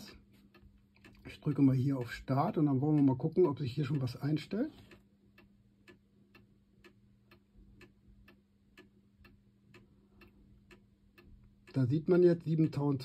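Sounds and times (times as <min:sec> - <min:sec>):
pendulum clock ticking: 0:00.0 - 0:13.0.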